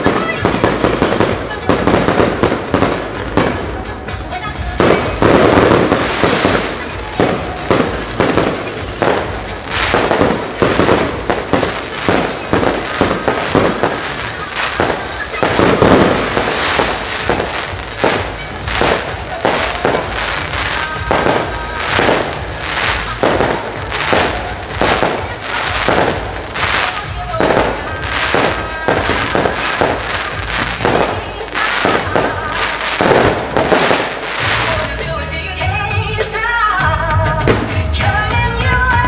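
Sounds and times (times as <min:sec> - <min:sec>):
music playing: 0:00.0 - 0:39.0.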